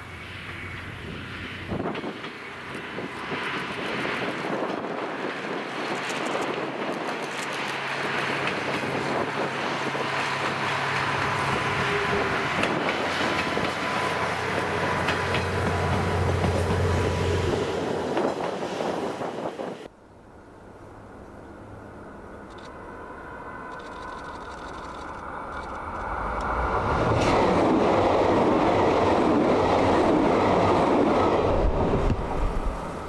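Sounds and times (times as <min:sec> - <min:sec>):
train rushing noise: 0:00.0 - 0:19.9, 0:20.7 - 0:33.0.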